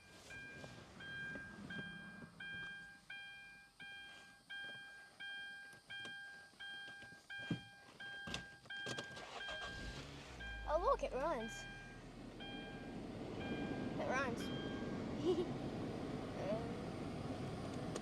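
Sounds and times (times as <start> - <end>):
car warning chime dinging: 0.0 - 15.0.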